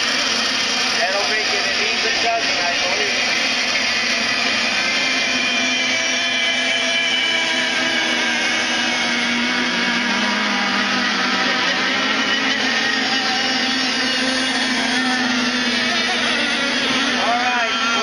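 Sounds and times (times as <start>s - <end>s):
radio-controlled boats whining: 0.0s - 18.0s.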